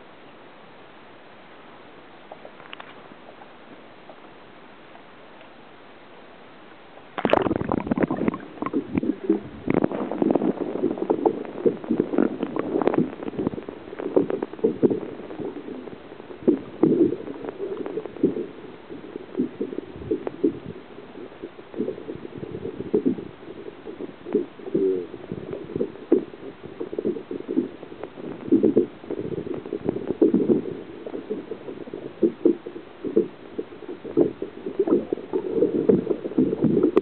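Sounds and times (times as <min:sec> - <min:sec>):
water sloshing and gurgling: 0:07.1 - 0:37.0.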